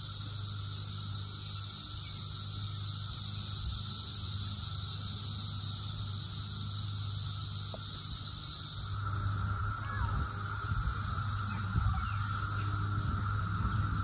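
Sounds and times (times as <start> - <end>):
cicadas droning chorus: 0.0 - 14.0.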